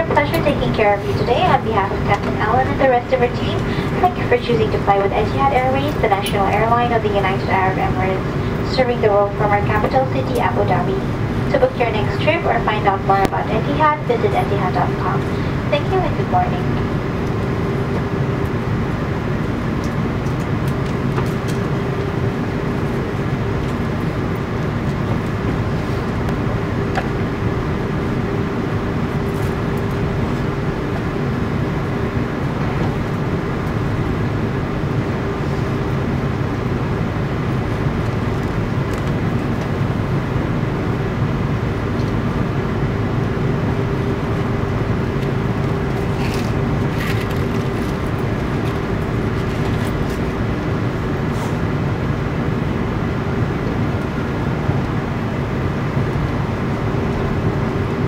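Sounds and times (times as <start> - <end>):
airliner cabin rumble and hiss: 0.0 - 58.0
constant low hum: 0.0 - 58.0.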